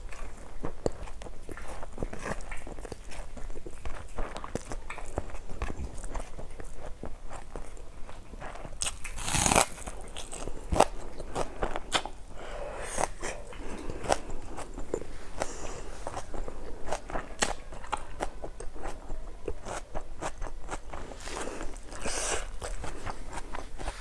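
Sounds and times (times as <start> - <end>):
chewing with crisp crunches: 0.0 - 24.0.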